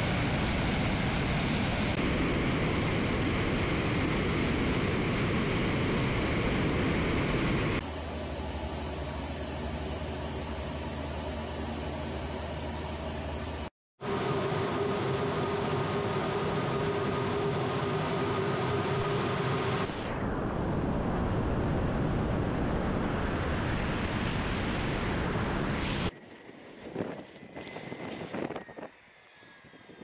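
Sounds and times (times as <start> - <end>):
jet engine and airflow noise: 0.0 - 30.0
rushing air outside: 0.0 - 30.0.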